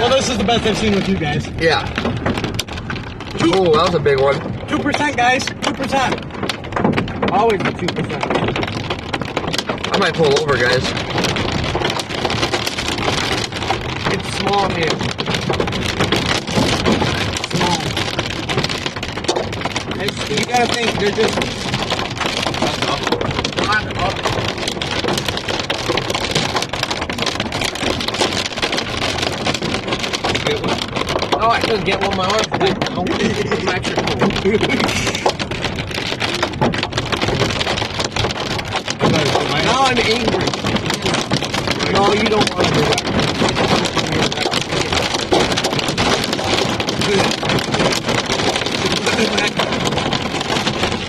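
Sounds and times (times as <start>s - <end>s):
hailstones rattling on a car: 0.0s - 51.0s.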